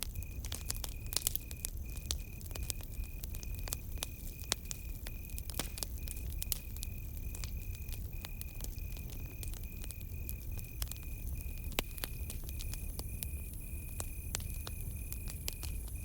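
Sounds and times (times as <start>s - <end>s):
campfire crackling: 0.0s - 16.0s
cricket chirping: 0.0s - 16.0s.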